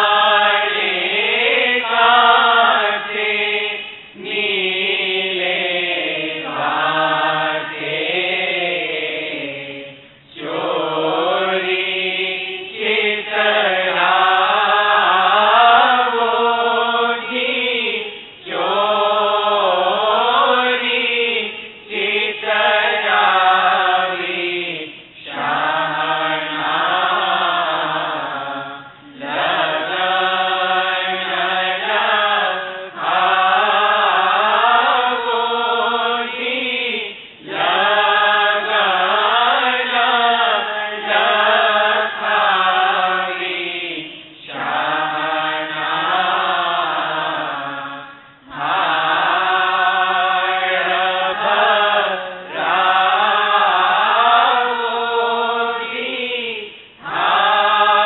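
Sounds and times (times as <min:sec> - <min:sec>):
person chanting: 0:00.0 - 0:58.0.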